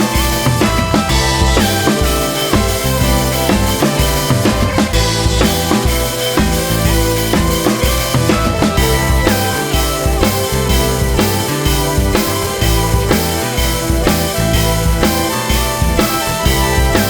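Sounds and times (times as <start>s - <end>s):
rock background music: 0.0s - 17.0s.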